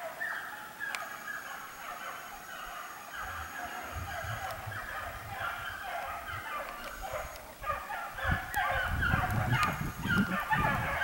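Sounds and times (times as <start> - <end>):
hounds baying: 0.0 - 11.0.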